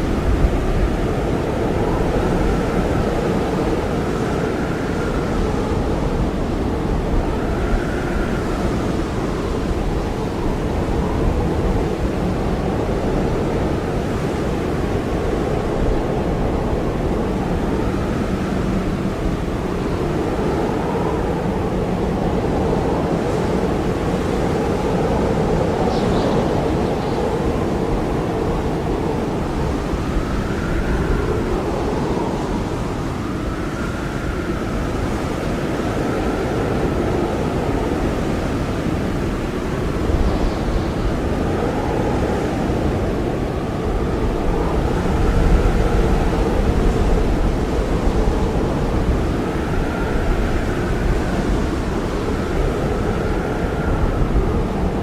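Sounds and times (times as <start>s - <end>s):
blizzard wind roaring: 0.0s - 55.0s.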